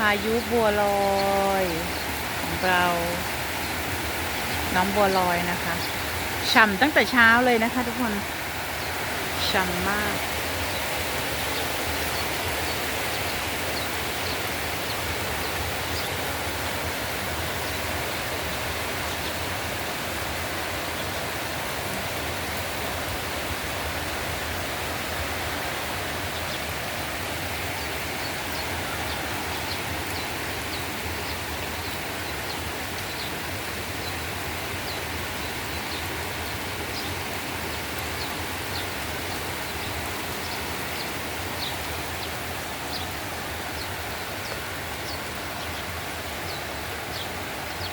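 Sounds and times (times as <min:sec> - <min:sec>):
heavy rain hissing: 0:00.0 - 0:47.9.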